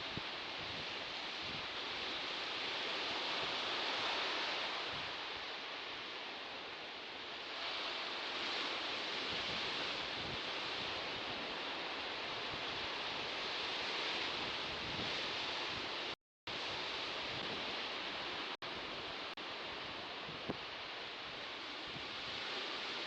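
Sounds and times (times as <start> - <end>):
sea surf washing on shore: 0.0 - 23.0.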